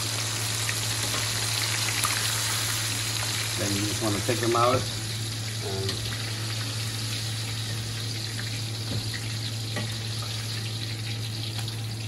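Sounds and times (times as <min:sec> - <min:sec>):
hot oil frying: 0:00.0 - 0:12.0.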